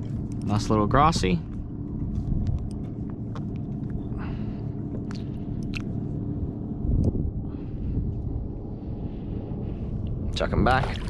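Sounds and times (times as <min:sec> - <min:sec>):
faint hum: 0:00.0 - 0:11.0
low outdoor rumble: 0:00.0 - 0:11.0.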